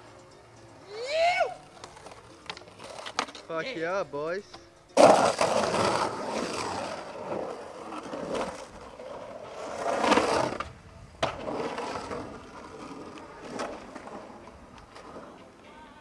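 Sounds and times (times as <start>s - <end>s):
skateboard wheels rolling: 0.1s - 3.5s, 5.0s - 16.0s.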